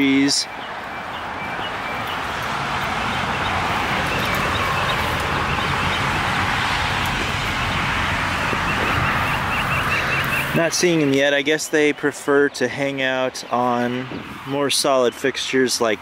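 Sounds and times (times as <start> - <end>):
bird chirping: 0.0 - 14.4
dense rushing noise: 1.6 - 16.0.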